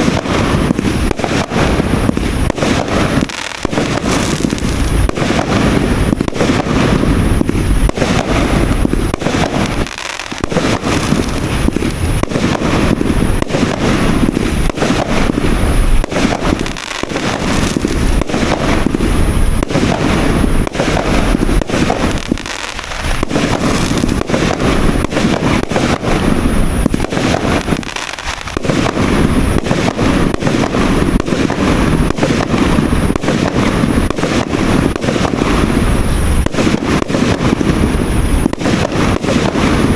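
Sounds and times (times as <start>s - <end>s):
fireworks cake bangs: 0.0s - 39.9s.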